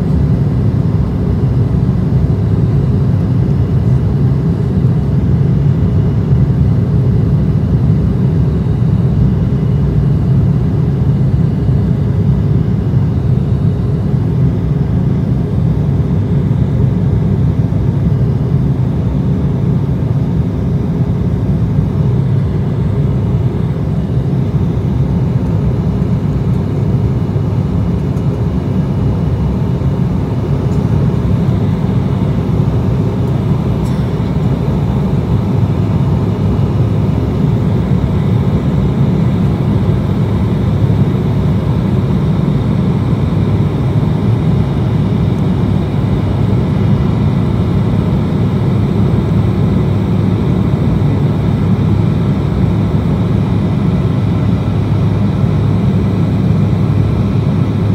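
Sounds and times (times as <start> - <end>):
jet cabin drone: 0.0 - 57.9.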